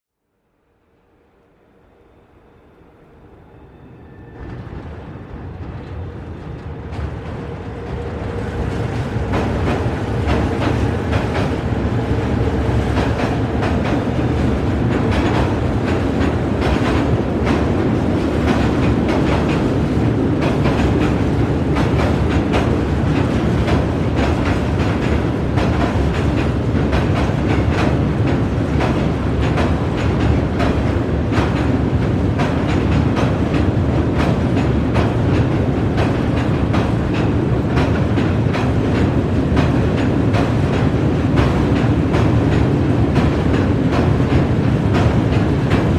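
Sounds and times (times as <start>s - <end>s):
freight train rumbling on bridge: 1.1s - 45.9s
wheels clanking on rails: 4.4s - 45.9s.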